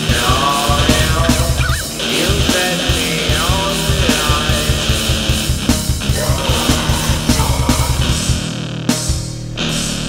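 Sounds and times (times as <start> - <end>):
heavy metal instrumental music: 0.0 - 10.0.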